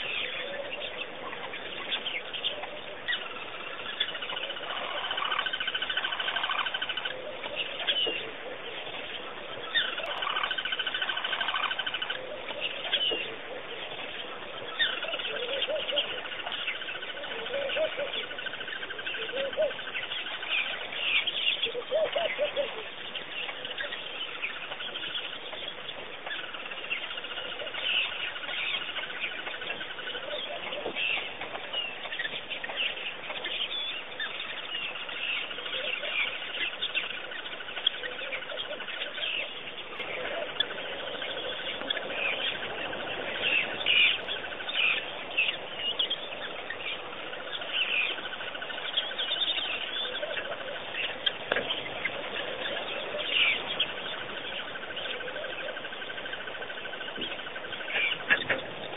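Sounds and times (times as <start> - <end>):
birds chirping and calling: 0.0 - 58.9.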